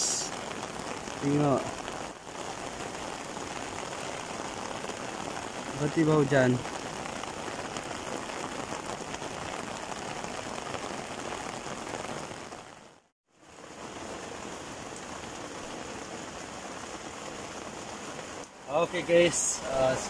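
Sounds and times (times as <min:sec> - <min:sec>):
rain on dirt ground: 0:00.0 - 0:20.0.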